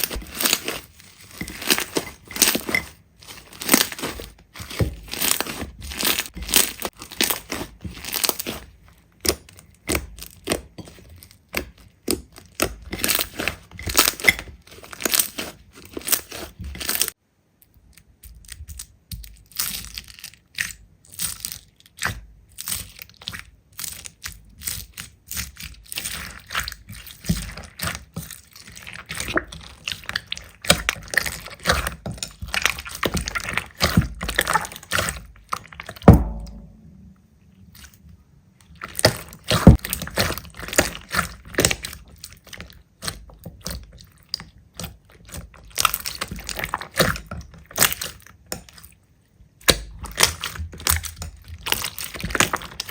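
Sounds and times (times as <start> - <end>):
hands squeezing sticky slime: 0.0 - 17.2, 17.8 - 36.2, 38.6 - 49.0, 49.6 - 52.9.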